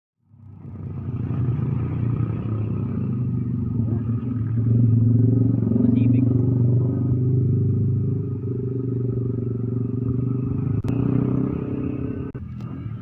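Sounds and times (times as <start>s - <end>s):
motorcycle engine running: 0.2s - 13.0s.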